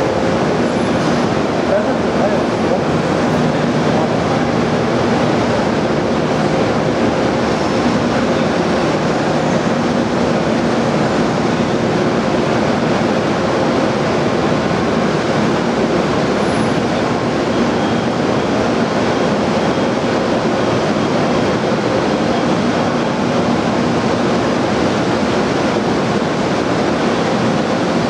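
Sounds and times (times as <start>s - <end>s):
diesel locomotive idling: 0.0s - 28.0s.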